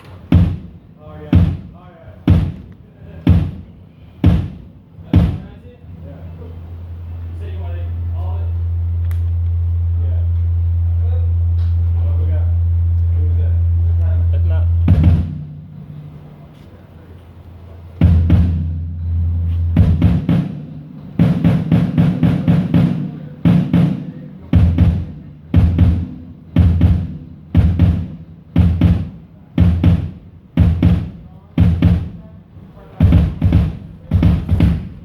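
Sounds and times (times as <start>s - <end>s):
low drum hits: 0.3s - 5.6s, 8.6s - 16.4s, 18.0s - 32.3s, 33.0s - 35.0s.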